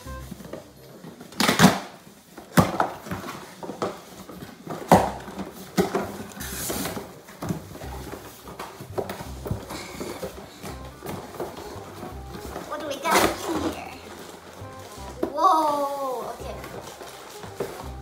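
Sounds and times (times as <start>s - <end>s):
items clattering on table: 0.2s - 15.6s, 16.3s - 18.0s.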